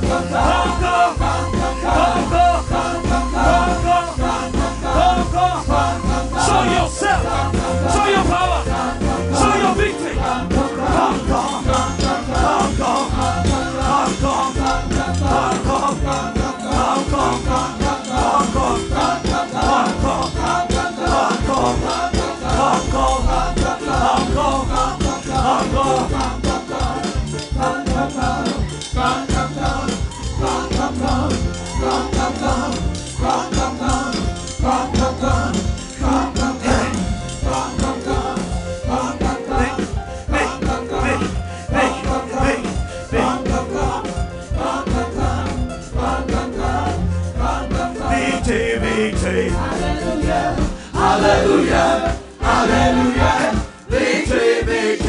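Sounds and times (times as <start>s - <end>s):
gospel band music: 0.0s - 55.0s.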